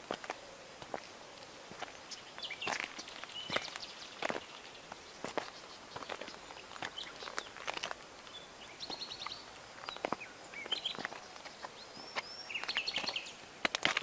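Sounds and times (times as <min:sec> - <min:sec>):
footsteps on rough ground: 0:00.0 - 0:14.0
small birds chirping: 0:00.0 - 0:14.0.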